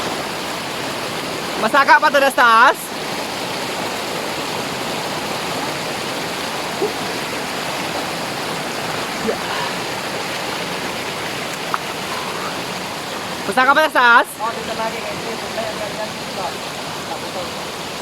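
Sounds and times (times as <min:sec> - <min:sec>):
water rushing in a stream: 0:00.0 - 0:18.0.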